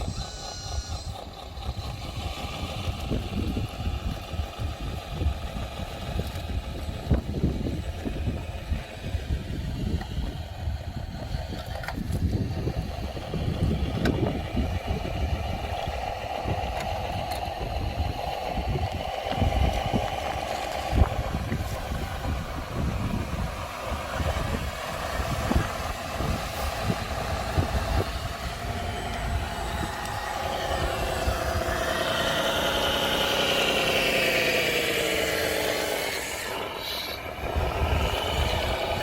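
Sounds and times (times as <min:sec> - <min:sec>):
model truck motor whine: 0:00.0 - 0:39.0.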